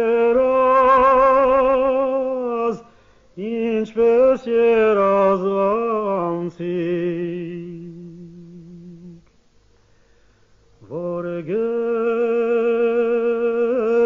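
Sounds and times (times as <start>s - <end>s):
man singing: 0.0s - 9.3s, 10.8s - 14.0s.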